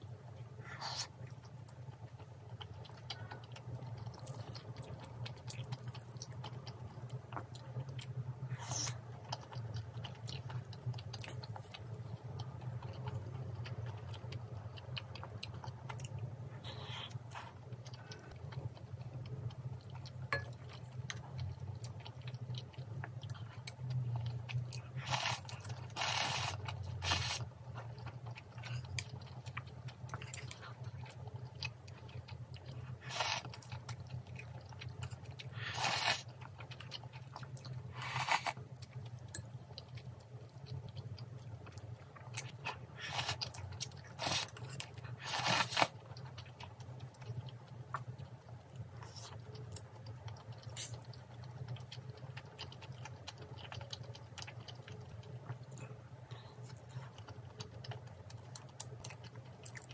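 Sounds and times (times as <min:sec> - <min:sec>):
steady low hum: 0:00.0 - 0:59.9
crunchy food chewed: 0:00.4 - 0:59.9.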